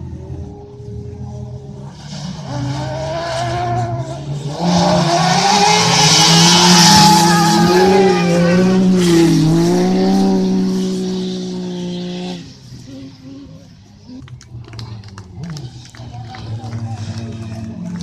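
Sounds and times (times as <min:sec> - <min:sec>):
buggy engines revving: 0:00.0 - 0:18.0.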